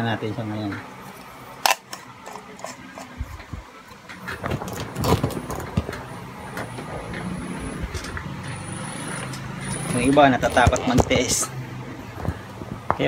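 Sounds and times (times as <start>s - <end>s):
vehicle engine rumbling: 1.5s - 13.0s.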